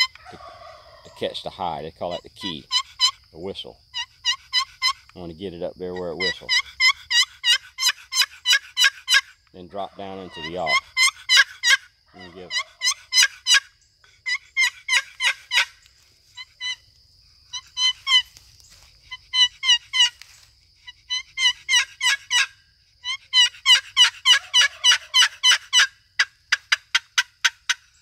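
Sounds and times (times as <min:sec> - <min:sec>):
turkey call yelps: 0:00.0 - 0:01.3, 0:02.1 - 0:03.3, 0:03.9 - 0:05.1, 0:05.9 - 0:15.8, 0:16.4 - 0:16.8, 0:17.5 - 0:18.4, 0:19.1 - 0:20.3, 0:20.9 - 0:27.9.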